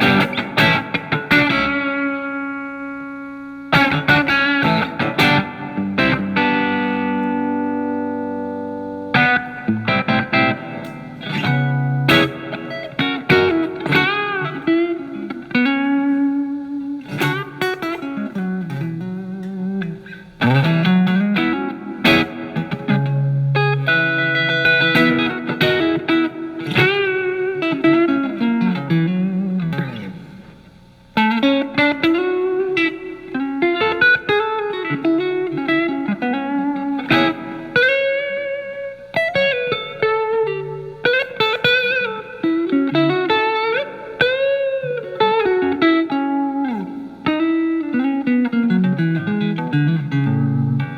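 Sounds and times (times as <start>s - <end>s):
electric guitar bluesy lead lines: 0.0s - 50.9s.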